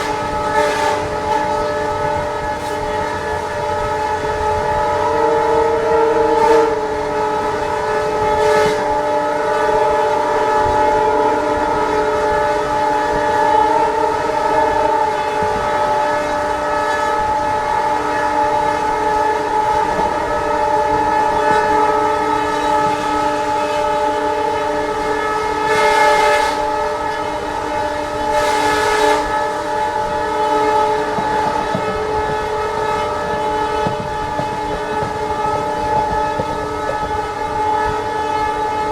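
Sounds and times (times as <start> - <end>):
locomotive horn: 0.0 - 38.9
train moving: 0.0 - 38.9.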